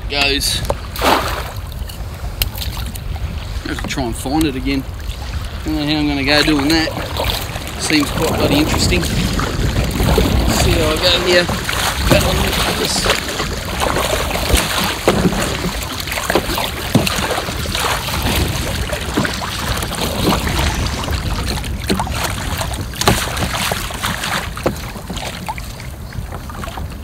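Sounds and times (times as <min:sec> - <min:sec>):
wind buffeting microphone: 0:00.0 - 0:27.0
paddle strokes splashing: 0:00.5 - 0:27.0.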